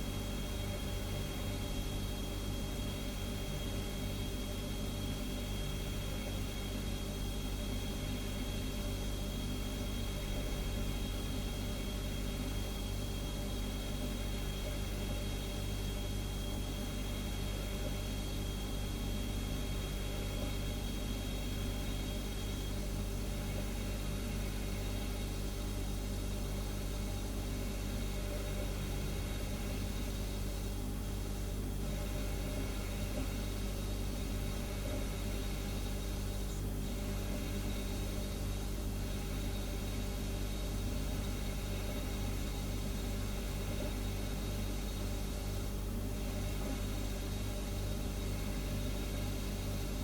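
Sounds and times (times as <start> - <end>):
refrigerator humming: 0.0 - 50.0.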